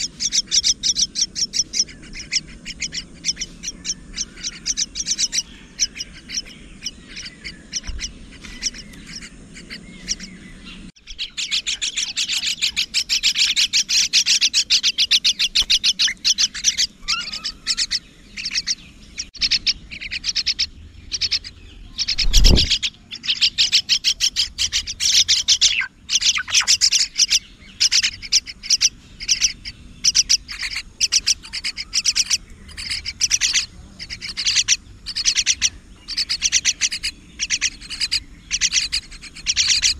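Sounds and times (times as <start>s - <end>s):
mynas chirping: 0.0s - 39.9s.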